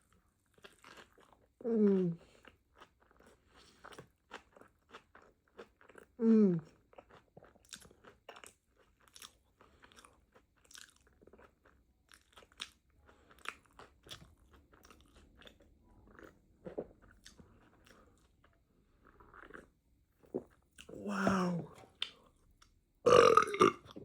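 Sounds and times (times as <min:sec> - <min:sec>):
faint chewing and crunching: 0:00.0 - 0:24.0.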